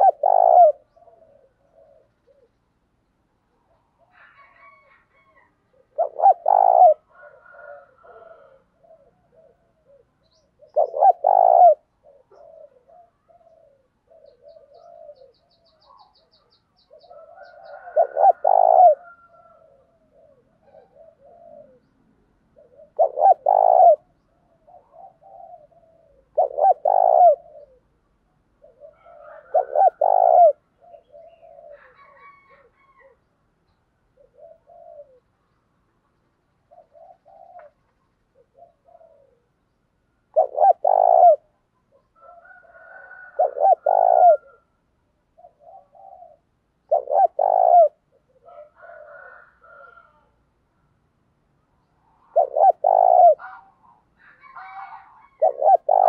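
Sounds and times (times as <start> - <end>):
dove cooing: 0.0 - 2.6, 3.5 - 33.2, 34.1 - 35.4, 36.6 - 39.7, 40.3 - 44.7, 45.3 - 50.3, 52.0 - 56.0.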